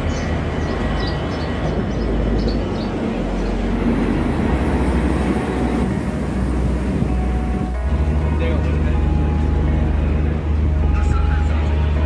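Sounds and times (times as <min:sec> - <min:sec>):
low rumble of standing trains: 0:00.0 - 0:12.0.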